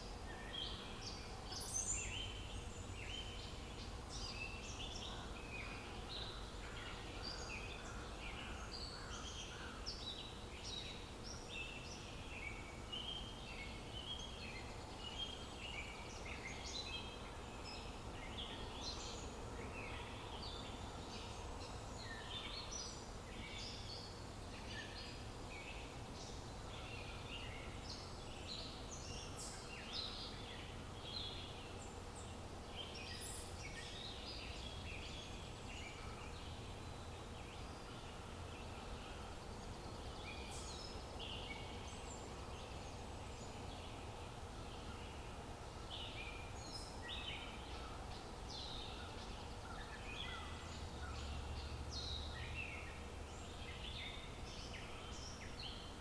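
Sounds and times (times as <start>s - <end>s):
outdoor background hiss: 0.0s - 56.0s
small birds chirping: 0.0s - 56.0s.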